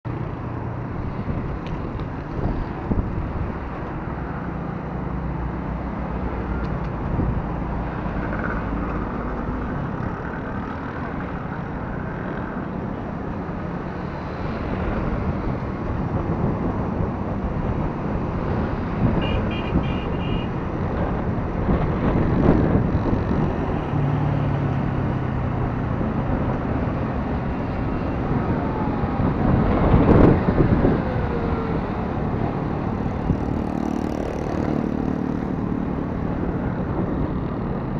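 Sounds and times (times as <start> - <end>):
road noise: 0.0 - 37.9
vehicles passing: 0.1 - 37.9.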